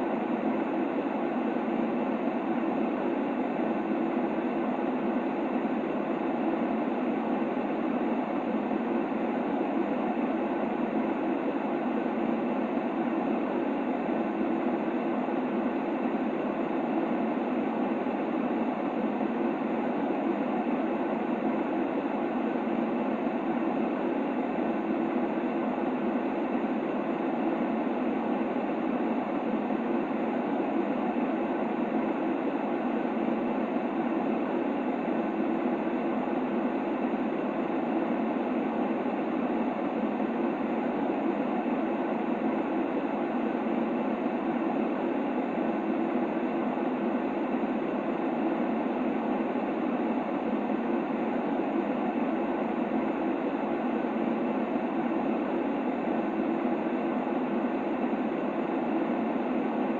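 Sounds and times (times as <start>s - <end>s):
muffled white noise hiss: 0.0s - 59.9s.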